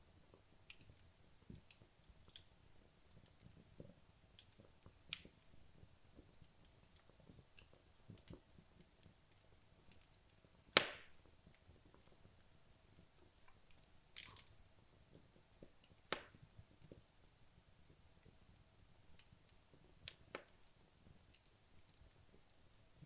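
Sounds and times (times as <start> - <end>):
logs crackling in fireplace: 0.0 - 23.0
wood fire popping: 0.0 - 23.0.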